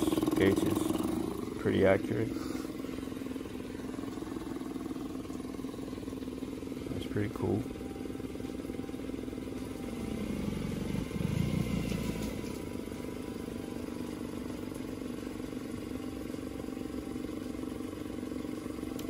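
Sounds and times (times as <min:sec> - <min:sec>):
outboard motor idling and revving: 0:00.0 - 0:19.0.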